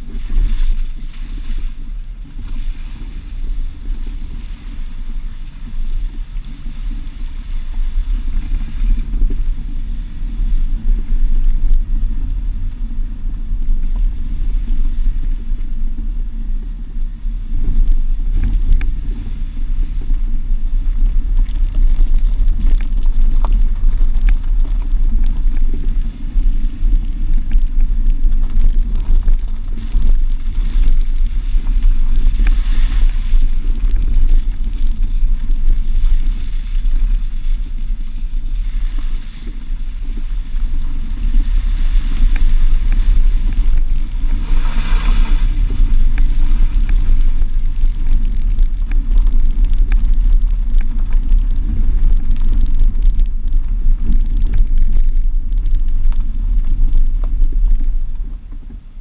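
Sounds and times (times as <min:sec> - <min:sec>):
vehicle engine rumble: 0:00.0 - 0:59.0
wind on microphone: 0:00.0 - 0:59.0.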